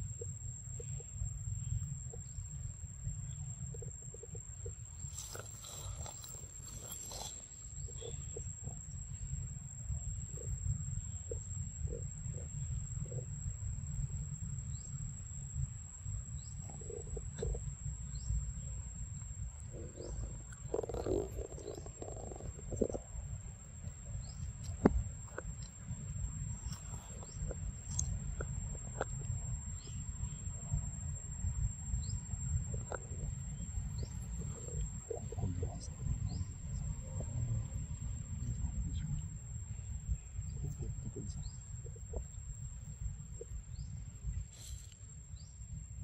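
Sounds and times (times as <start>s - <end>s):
constant high-pitched tone: 0.0s - 46.0s
steady low rumble: 0.0s - 46.0s.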